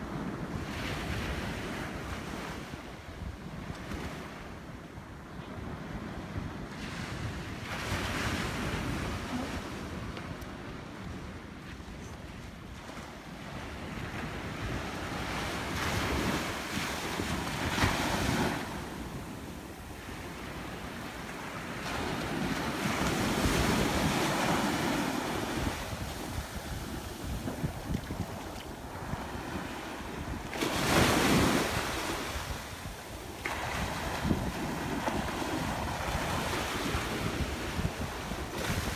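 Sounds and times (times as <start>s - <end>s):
waves breaking on beach: 0.0s - 38.9s
wind buffeting microphone: 0.0s - 38.9s.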